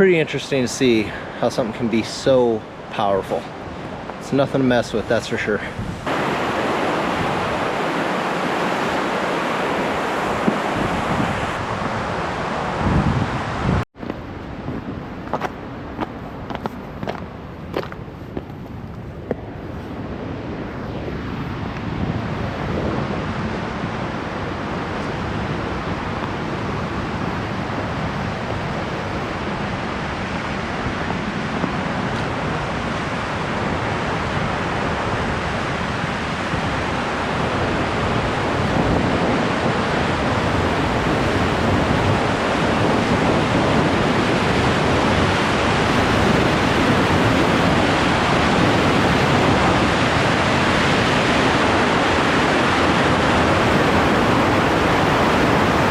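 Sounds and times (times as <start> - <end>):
mountain river roaring: 0.0 - 55.9.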